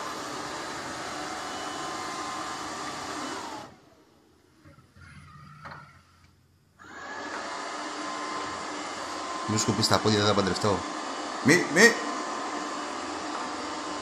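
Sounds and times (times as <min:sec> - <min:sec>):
robot vacuum cleaner whirring: 0:00.0 - 0:04.0, 0:06.8 - 0:14.0.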